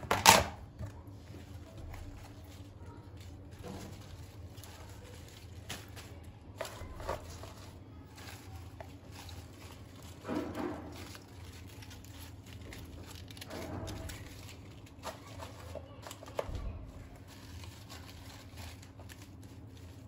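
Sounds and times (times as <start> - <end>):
kitchen knocks and rustles: 0.0 - 20.0.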